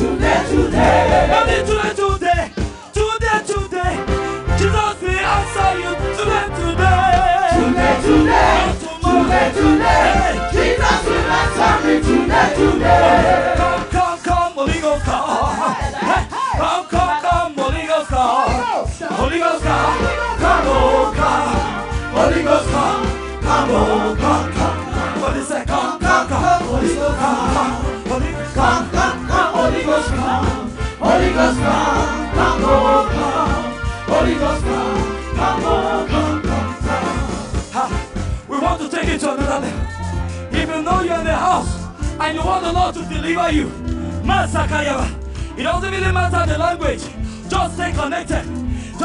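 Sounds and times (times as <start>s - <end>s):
band with bass: 0.0s - 49.0s
steady drum beat: 0.0s - 49.0s
upbeat gospel music with singing: 0.0s - 49.0s.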